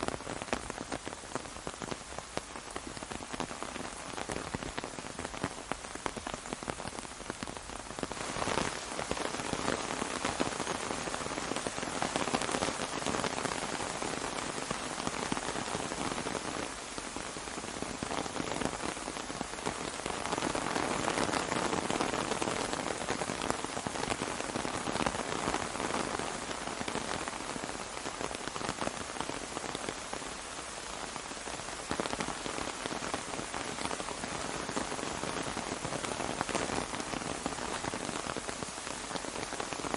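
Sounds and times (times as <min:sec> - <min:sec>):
rain pattering on an umbrella: 0:00.0 - 0:39.9.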